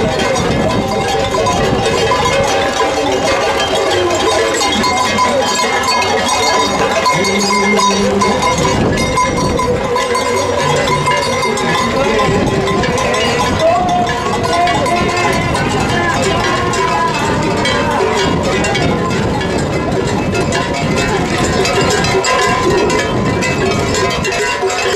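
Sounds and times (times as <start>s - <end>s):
crowd voices: 0.0s - 24.9s
metal bells clanking and ringing: 0.0s - 24.9s.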